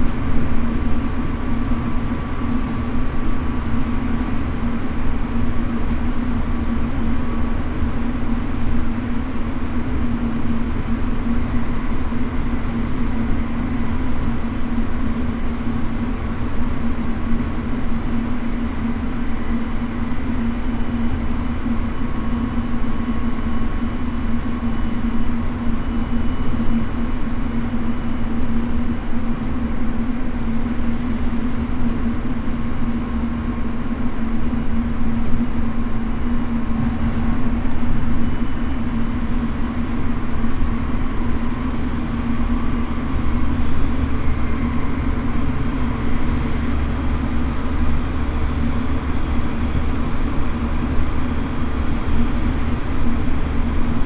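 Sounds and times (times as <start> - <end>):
steady electric hum: 0.0 - 54.0
train wheels rumbling on rails: 0.0 - 54.0.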